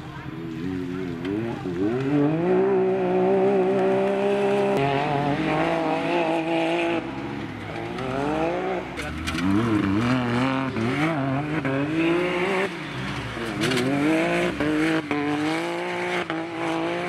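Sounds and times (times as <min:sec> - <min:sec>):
utv engine revving: 0:00.4 - 0:17.0.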